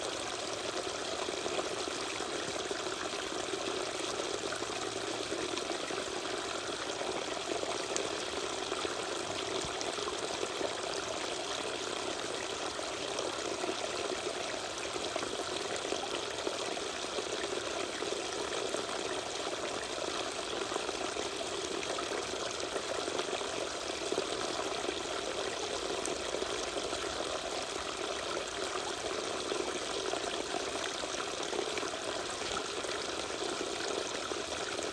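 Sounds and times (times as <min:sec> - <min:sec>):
small waterfall pouring: 0:00.0 - 0:34.9.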